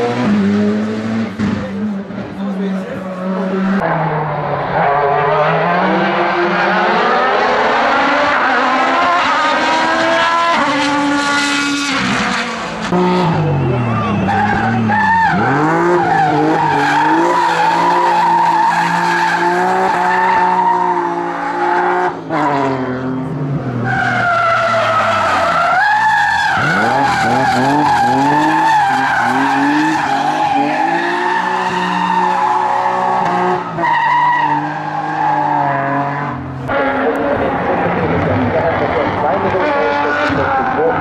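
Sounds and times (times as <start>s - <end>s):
race car engine revving hard: 0.0s - 41.0s.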